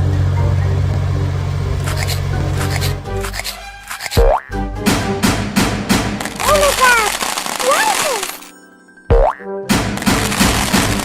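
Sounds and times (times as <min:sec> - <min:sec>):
light background music: 0:00.0 - 0:06.7, 0:08.4 - 0:11.0.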